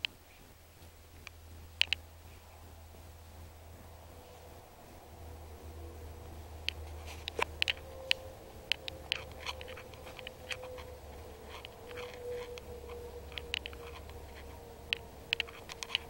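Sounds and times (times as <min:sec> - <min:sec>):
faint steady tone: 0:00.0 - 0:16.0
sharp clicks and ticks: 0:00.0 - 0:16.0
steady low hum: 0:00.0 - 0:16.0.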